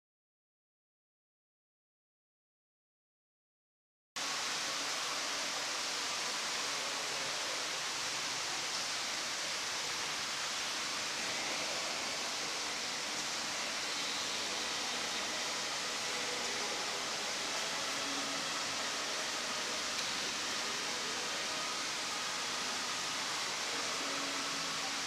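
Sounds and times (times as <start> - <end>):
steady rushing hiss: 4.2 - 25.0.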